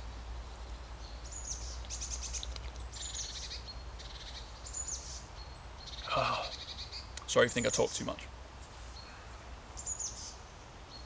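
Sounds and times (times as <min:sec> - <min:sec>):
songbird chirping and trilling: 0:00.0 - 0:11.0.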